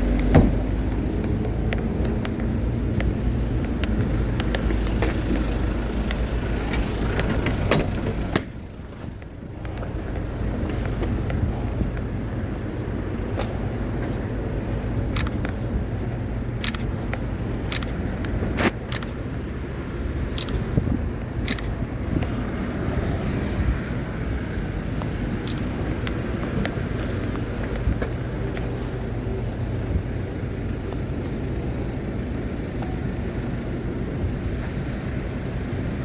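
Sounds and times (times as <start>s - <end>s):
vehicle engine rumble: 0.0s - 36.0s.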